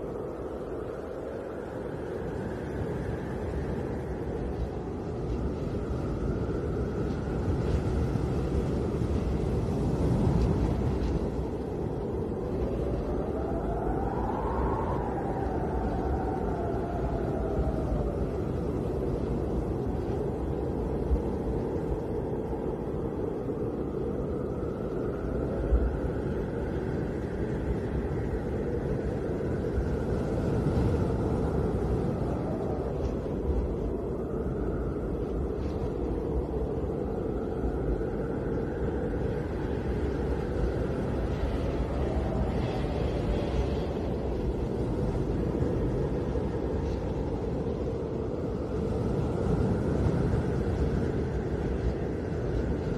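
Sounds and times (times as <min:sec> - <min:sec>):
faint wind whistling: 0:00.0 - 0:52.9
snowstorm wind rumbling: 0:00.0 - 0:52.9.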